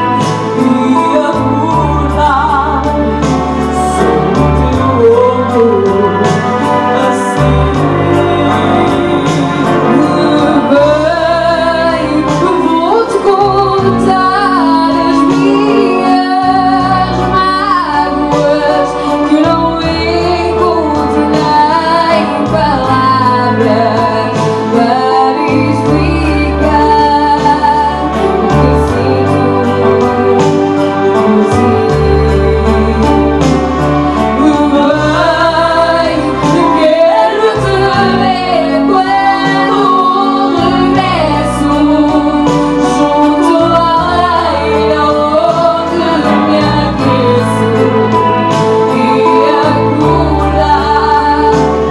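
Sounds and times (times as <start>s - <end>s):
instrumental accompaniment: 0.0s - 51.9s
woman singing with vibrato: 0.0s - 51.9s.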